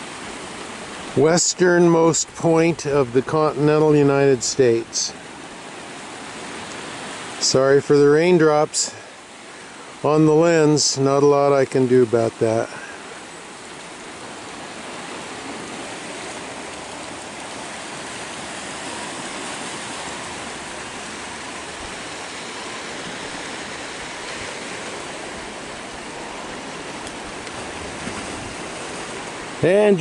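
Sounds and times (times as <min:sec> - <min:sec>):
ocean surf washing over rocks: 0:00.0 - 0:30.0.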